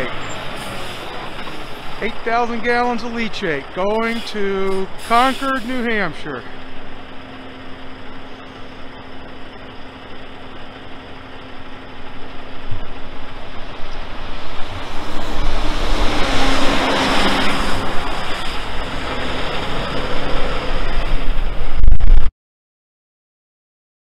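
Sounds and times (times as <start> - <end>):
truck diesel engine hum: 0.0 - 21.8
tyre and road noise: 0.0 - 22.3.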